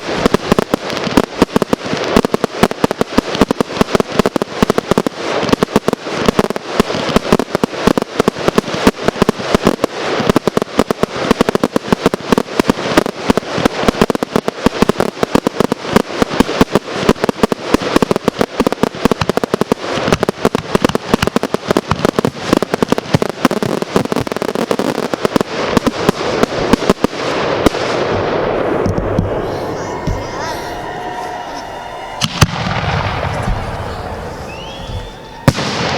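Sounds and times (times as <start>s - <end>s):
fireworks bursts: 0.0s - 35.9s.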